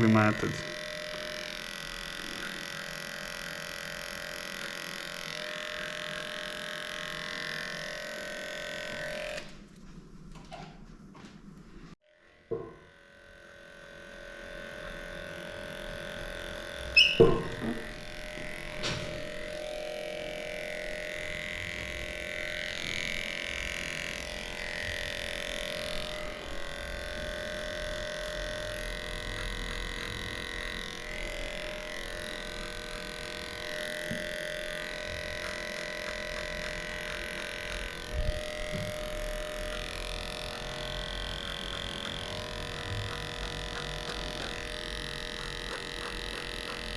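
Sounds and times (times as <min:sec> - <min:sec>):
electric clippers humming: 0:00.0 - 0:46.9.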